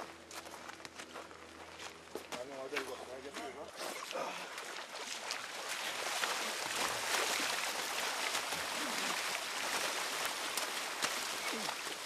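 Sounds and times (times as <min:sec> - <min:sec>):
water splashing and sloshing: 0:01.5 - 0:12.0.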